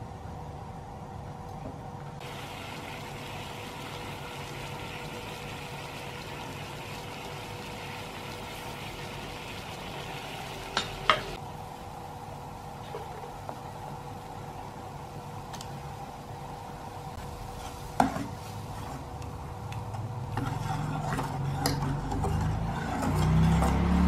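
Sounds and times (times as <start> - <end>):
water boiling in a saucepan: 2.2 - 24.0.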